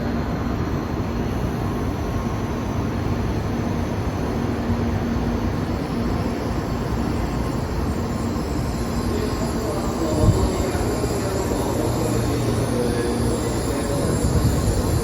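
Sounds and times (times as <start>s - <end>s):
train running rumble and hiss: 0.0s - 15.0s.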